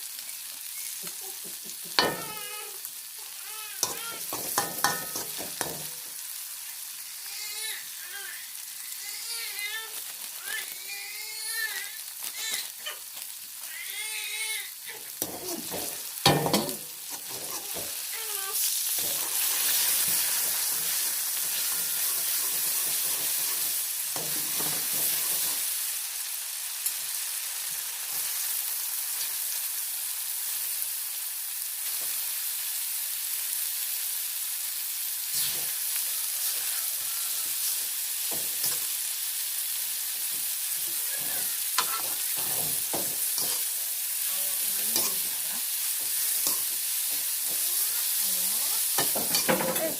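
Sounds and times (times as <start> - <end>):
food sizzling in hot oil: 0.0 - 49.9.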